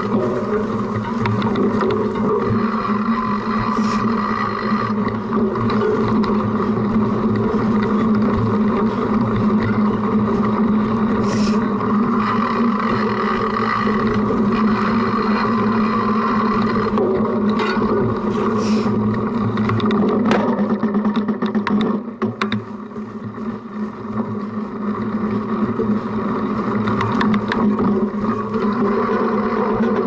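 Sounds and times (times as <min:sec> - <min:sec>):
bike rumbling over rough ground: 0:00.0 - 0:30.0.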